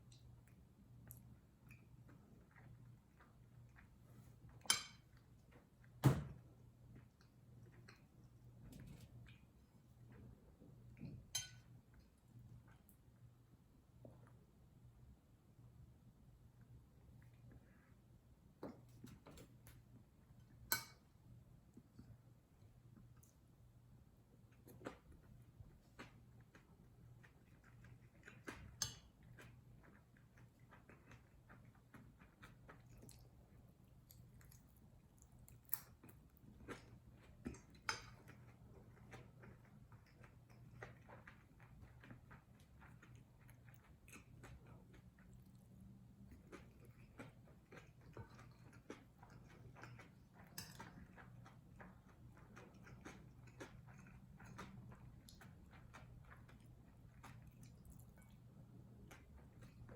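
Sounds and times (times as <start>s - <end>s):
faint chewing: 0.0s - 14.6s, 16.4s - 59.9s.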